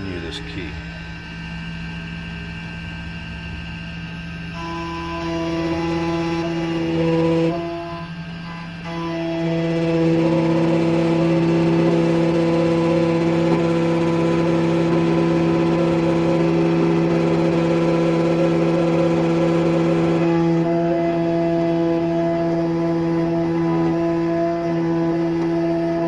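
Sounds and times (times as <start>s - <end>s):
key-cutting machine motor whine: 0.0s - 26.0s.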